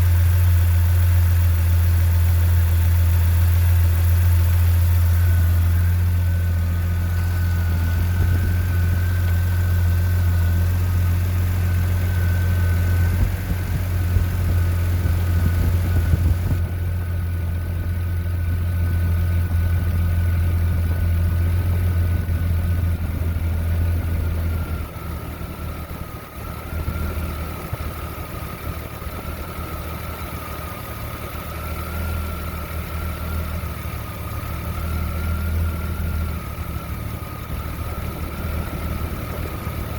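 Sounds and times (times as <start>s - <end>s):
engine idling roughly: 0.0s - 39.9s
thin steady whine: 0.0s - 39.9s.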